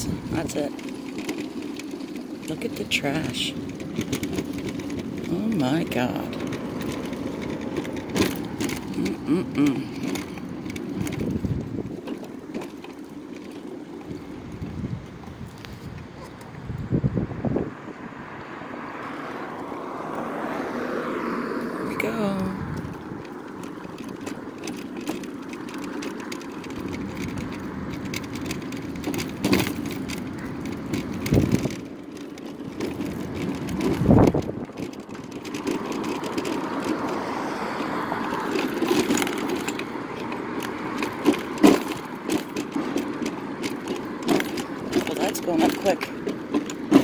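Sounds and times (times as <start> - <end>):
scooter knocking over bumps: 0.0 - 16.6, 19.5 - 47.0
mobility scooter motor hum: 0.0 - 47.0.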